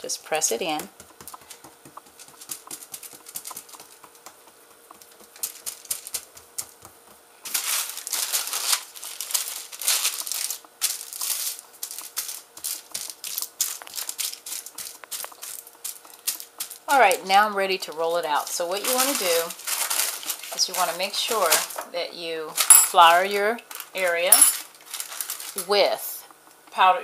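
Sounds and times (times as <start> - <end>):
parchment paper crinkling: 0.3 - 26.6.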